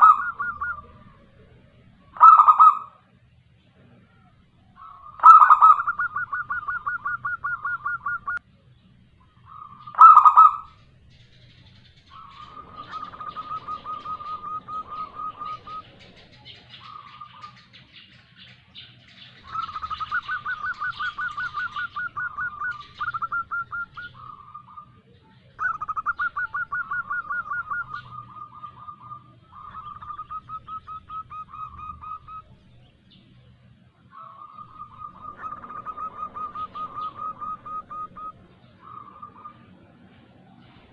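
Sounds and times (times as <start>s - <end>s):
dove rolling trills: 0.0s - 40.9s.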